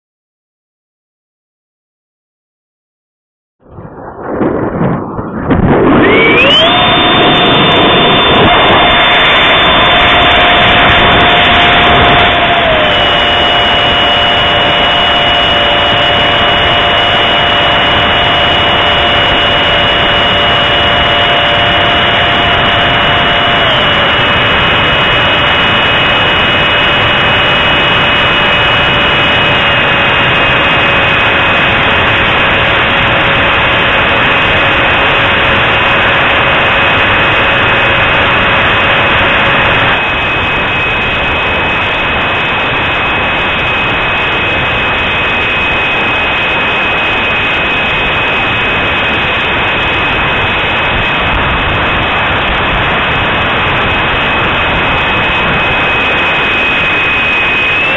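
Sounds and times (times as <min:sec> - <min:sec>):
electric ducted fan whine: 0:04.0 - 0:57.9.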